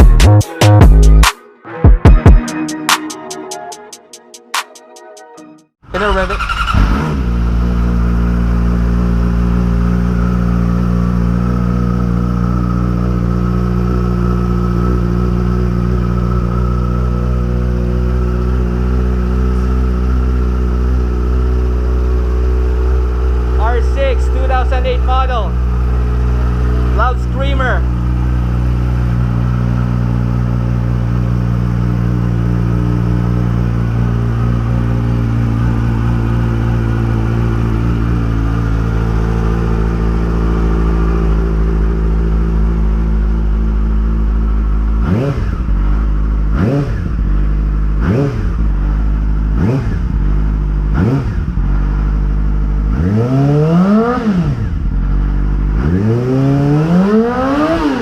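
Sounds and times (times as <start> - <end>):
motorcycle engine idling and revving: 5.8 - 58.0.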